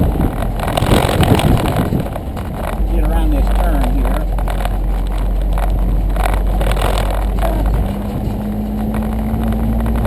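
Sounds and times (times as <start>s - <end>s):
car interior road rumble: 0.0s - 10.0s
engine hum: 0.0s - 10.0s.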